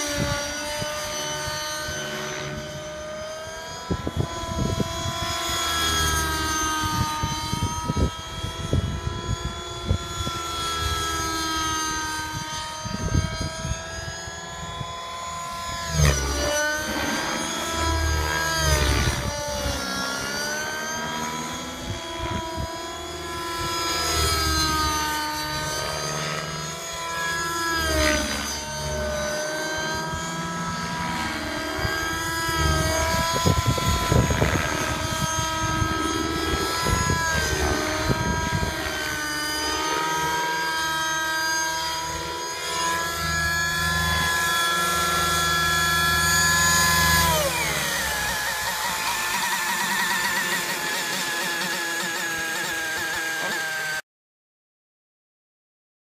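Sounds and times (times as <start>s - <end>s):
rc helicopter engine and rotor: 0.0s - 54.1s.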